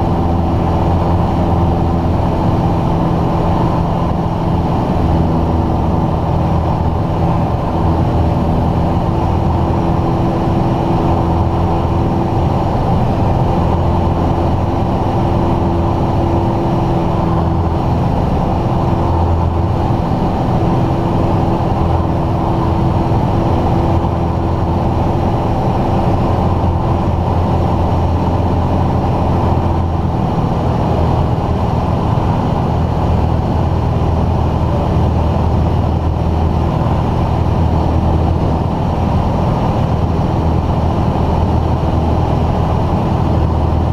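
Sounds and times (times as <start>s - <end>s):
light aircraft engine droning: 0.0s - 43.9s.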